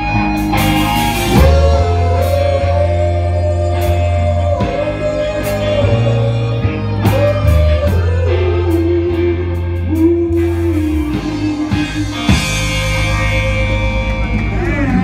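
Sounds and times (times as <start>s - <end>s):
live rock band playing: 0.0s - 15.0s
person singing long notes: 0.6s - 15.0s.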